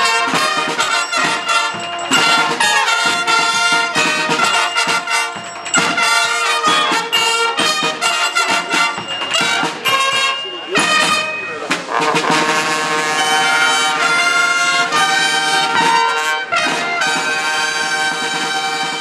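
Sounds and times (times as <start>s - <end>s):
bass drum: 0.0s - 17.4s
brass band playing: 0.0s - 19.0s.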